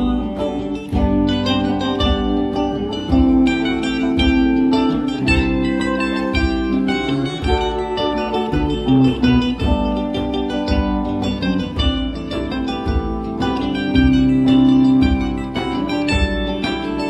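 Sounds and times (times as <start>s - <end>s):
hand drums: 0.0s - 17.0s
plucked guitar with bending notes: 0.0s - 17.0s.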